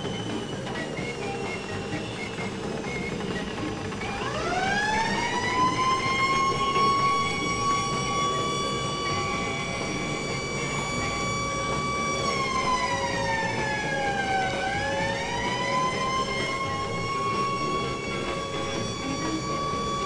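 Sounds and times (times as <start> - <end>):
police siren: 0.0 - 20.0
steady rumble: 0.0 - 20.0.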